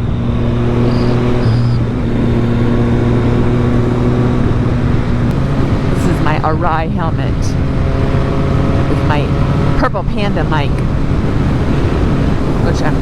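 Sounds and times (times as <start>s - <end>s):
motorcycle engine cruising: 0.0s - 13.0s
wind rush: 0.0s - 13.0s.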